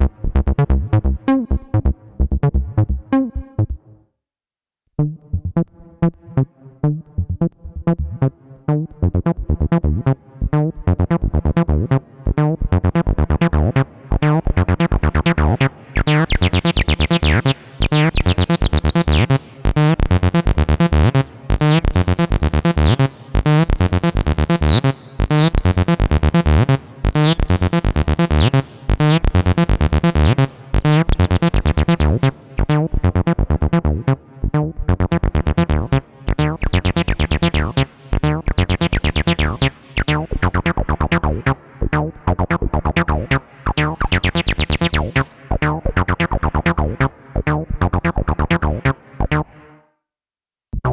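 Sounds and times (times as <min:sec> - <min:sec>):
acid bass synthesizer sequence: 0:00.0 - 0:04.0, 0:05.0 - 0:49.7.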